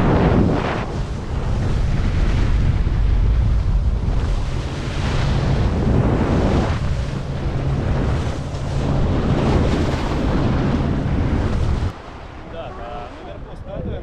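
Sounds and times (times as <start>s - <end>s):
water spraying off hull: 0.0s - 13.5s
motorboat engine hum: 0.0s - 14.0s
wind buffeting microphone: 0.0s - 14.0s.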